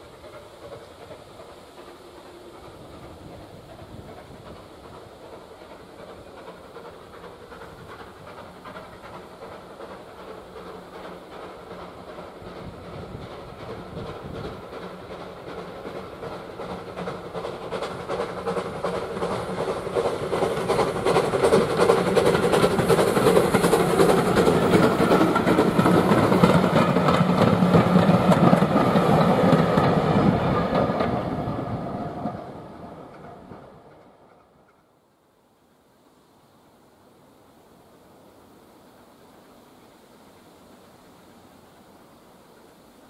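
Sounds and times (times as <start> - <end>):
wheels clattering over rail joints: 0.0 - 34.9
steam train passing: 0.0 - 43.0.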